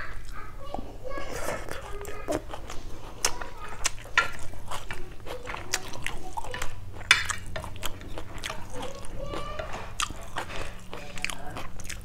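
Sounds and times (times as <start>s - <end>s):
wet chewing sounds: 0.0s - 12.0s
chopsticks and spoon tapping plate: 1.8s - 11.8s.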